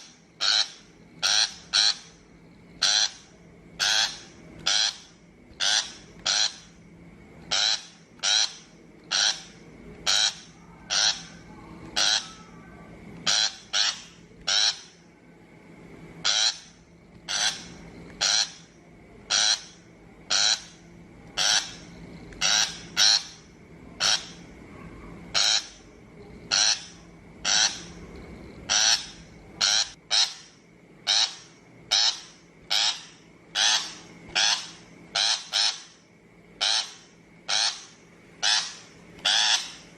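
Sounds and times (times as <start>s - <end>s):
bird giving harsh calls: 0.0s - 2.2s, 2.8s - 6.7s, 7.5s - 12.5s, 13.2s - 15.0s, 16.2s - 18.7s, 19.3s - 20.8s, 21.4s - 24.5s, 25.3s - 25.8s, 26.5s - 28.0s, 28.7s - 36.0s, 36.6s - 39.9s.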